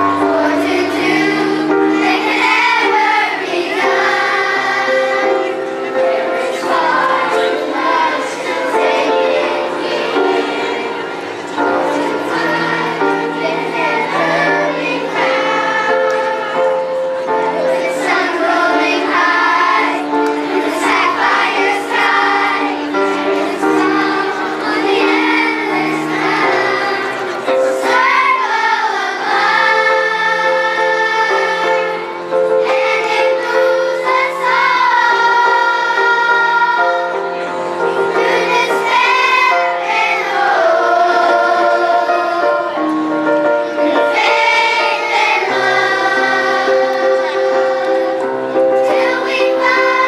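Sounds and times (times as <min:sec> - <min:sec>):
children's choir singing: 0:00.0 - 0:50.0
instrumental accompaniment: 0:00.0 - 0:50.0.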